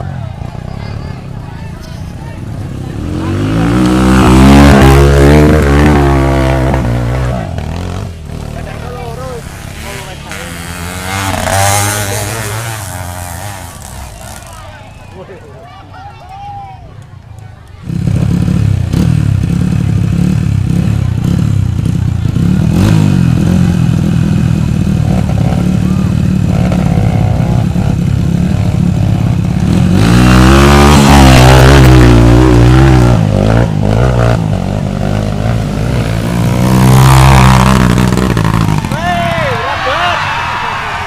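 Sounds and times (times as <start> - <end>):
motorcycle engine revving hard: 2.5 - 14.7, 17.8 - 39.7.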